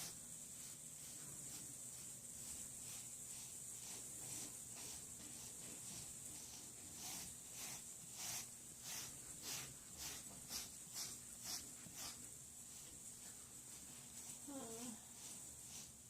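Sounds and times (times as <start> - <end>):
brush raked through fur: 0.0 - 16.0.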